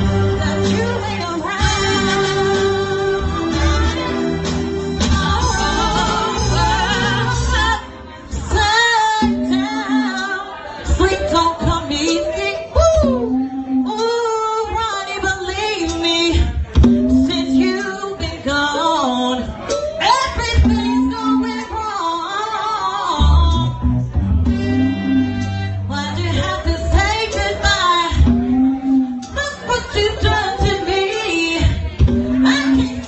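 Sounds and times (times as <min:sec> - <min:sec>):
woman singing r and b: 0:00.0 - 0:23.8, 0:24.5 - 0:33.0
instrumental backing music: 0:00.0 - 0:33.0.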